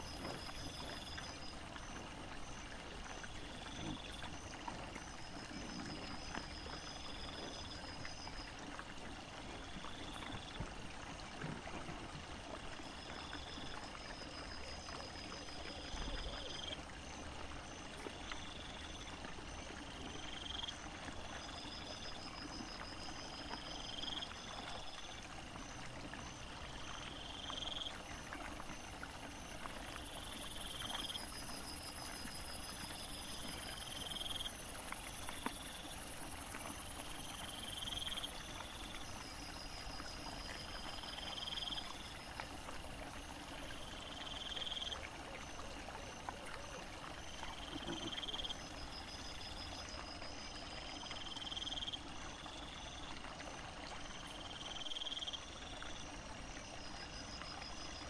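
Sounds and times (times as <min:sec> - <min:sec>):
insects chirping: 0:00.0 - 0:10.7, 0:12.5 - 0:53.2, 0:54.0 - 0:58.0.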